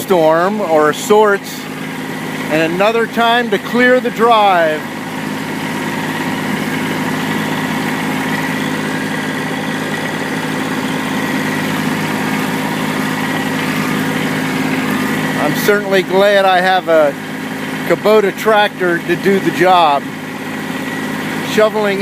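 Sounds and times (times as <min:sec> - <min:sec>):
tractor diesel engine humming: 0:00.0 - 0:22.0.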